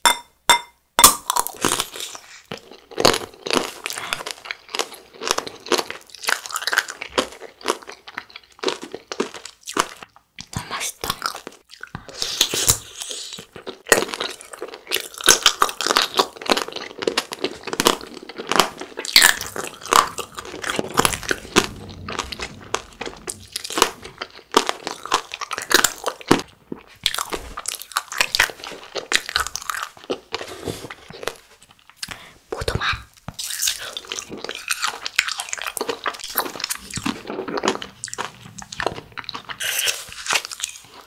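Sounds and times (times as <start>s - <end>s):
soft jelly chewing: 1.3s - 41.0s.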